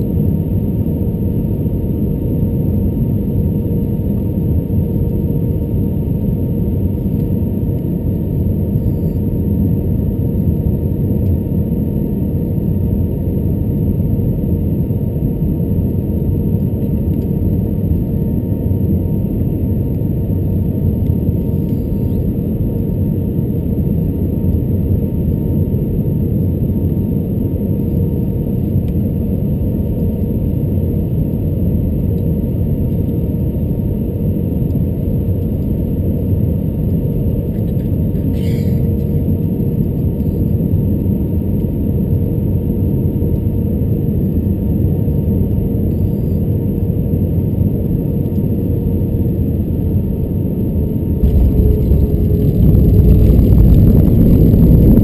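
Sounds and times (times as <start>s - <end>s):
aircraft engine and airflow rumble: 0.0s - 55.0s
faint steady whine: 0.0s - 55.0s.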